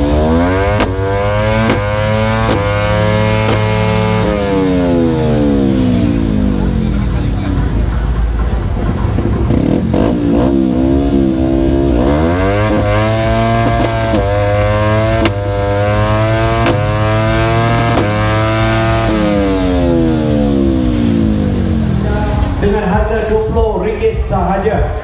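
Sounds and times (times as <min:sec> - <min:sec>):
motorcycle engine accelerating: 0:00.0 - 0:23.6.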